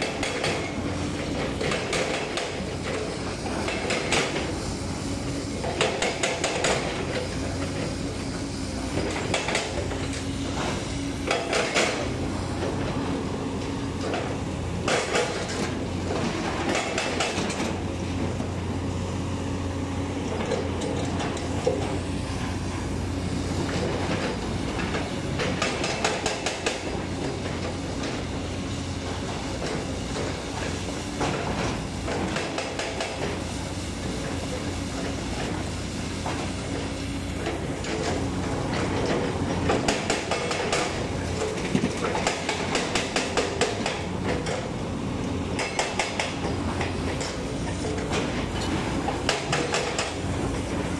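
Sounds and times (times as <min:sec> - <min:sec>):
excavator engine running: 0:00.0 - 0:50.9.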